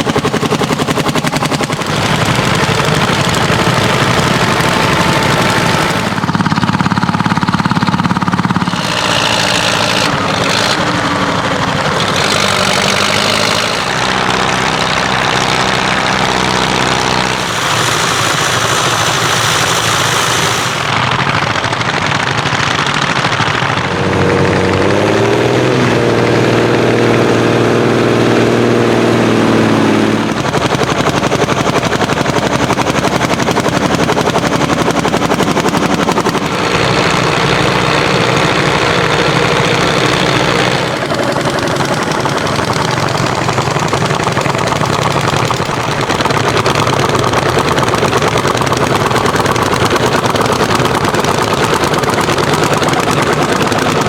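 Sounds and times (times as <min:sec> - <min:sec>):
engine revving up: 0:00.0 - 0:21.8, 0:22.6 - 0:54.0
tractor engines popping: 0:00.0 - 0:54.0.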